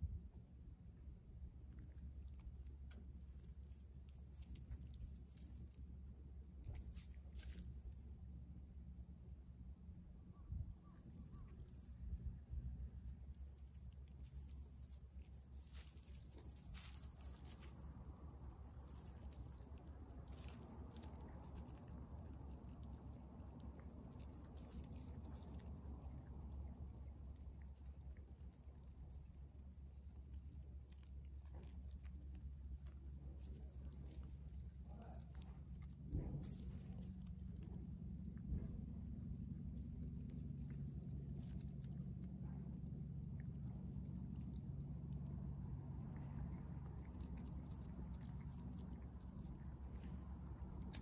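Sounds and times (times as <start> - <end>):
low background hum: 0.0 - 51.0
steady low rumble: 0.0 - 51.0
cat chewing raw fish: 1.5 - 9.7, 10.7 - 51.0
small crunching clicks: 1.6 - 8.4, 10.7 - 51.0.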